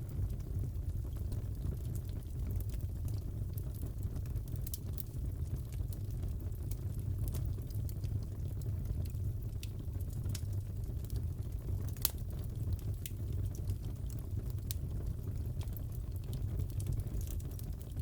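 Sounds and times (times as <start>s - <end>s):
fire pops and snaps: 0.0s - 18.0s.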